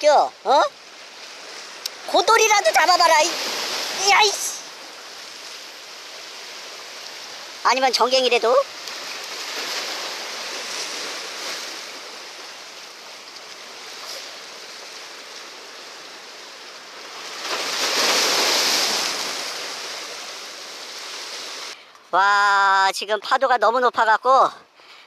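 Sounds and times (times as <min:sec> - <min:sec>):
sea waves breaking: 0:00.0 - 0:21.8.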